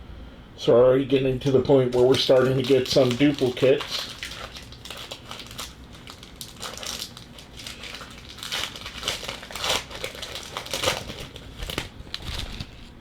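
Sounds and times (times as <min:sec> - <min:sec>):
plastic wrapper crinkling: 0:01.3 - 0:13.0.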